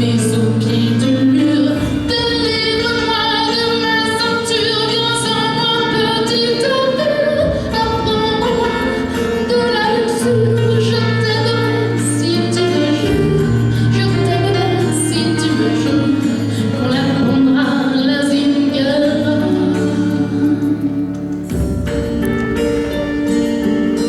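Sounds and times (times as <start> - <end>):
instrumental backing music: 0.0 - 24.0.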